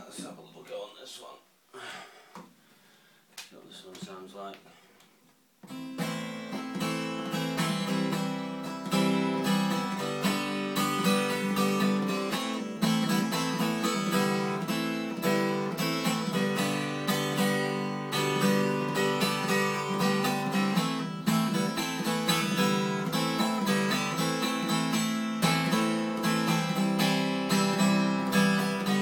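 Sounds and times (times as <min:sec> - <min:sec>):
acoustic guitar strummed chords: 0:05.6 - 0:29.0.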